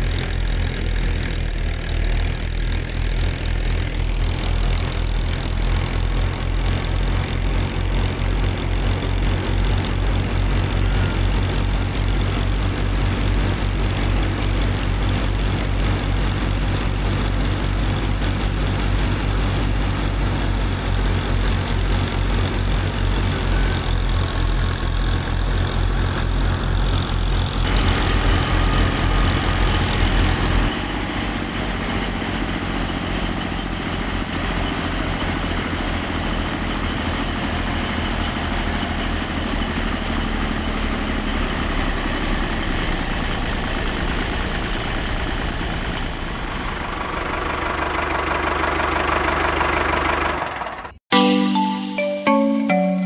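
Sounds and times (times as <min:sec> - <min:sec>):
small thresher machine humming: 0:00.0 - 0:50.9.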